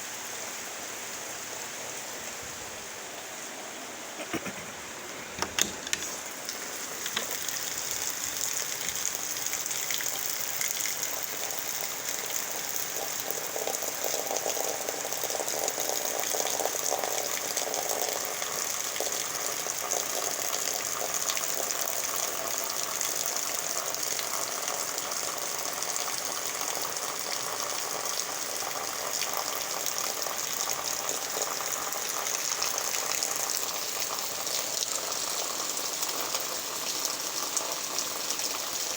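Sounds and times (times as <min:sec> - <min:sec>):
rushing floodwater and rain: 0:00.0 - 0:38.9.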